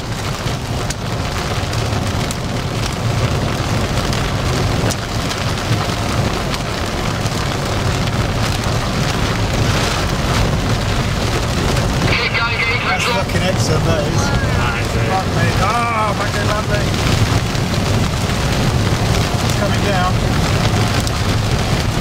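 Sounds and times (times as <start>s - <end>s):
deep rumble: 0.0s - 22.0s
rain and wind on a vehicle: 0.0s - 22.0s.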